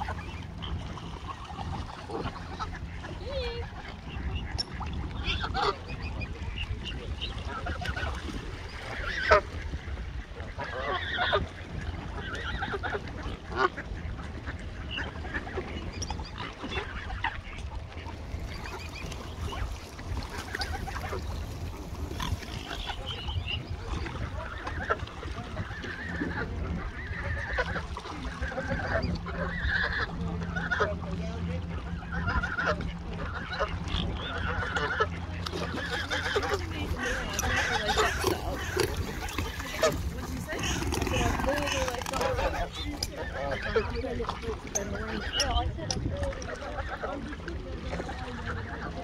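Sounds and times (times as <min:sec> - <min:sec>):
waterbirds calling: 0:00.0 - 0:49.0.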